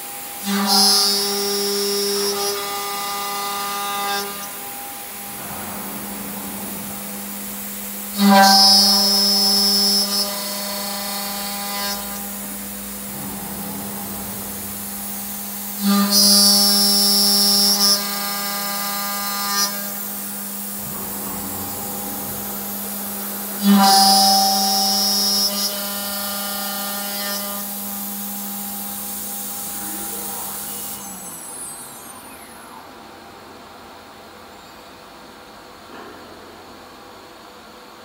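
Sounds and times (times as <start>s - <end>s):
machine spindle humming: 0.1s - 35.6s
high-pitched metal cutting: 0.3s - 33.2s.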